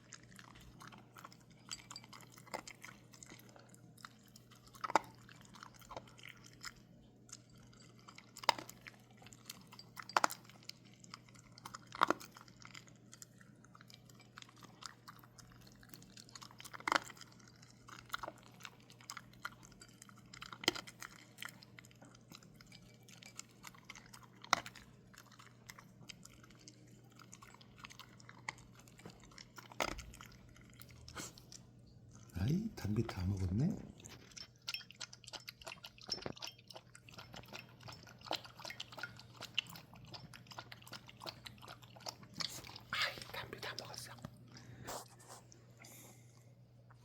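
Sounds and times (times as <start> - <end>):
dog chewing and crunching food: 0.0 - 47.0.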